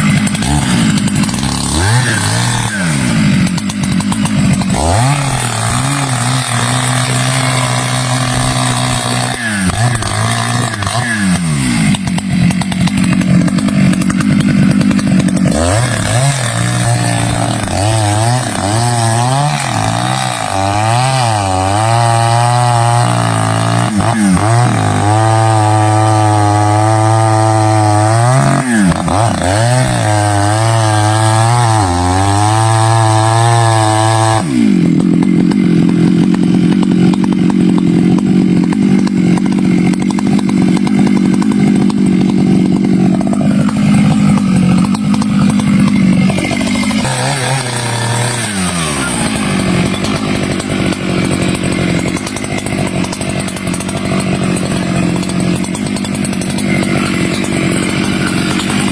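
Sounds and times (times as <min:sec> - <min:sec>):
chainsaw running at high revs: 0:00.0 - 0:58.9.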